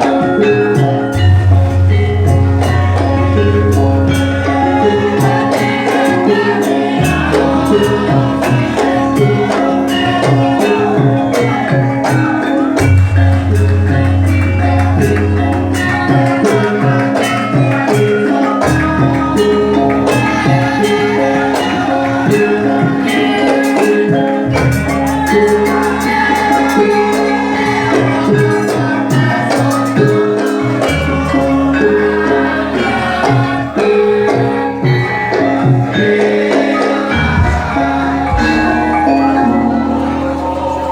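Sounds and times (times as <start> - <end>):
gamelan music: 0.0 - 40.9.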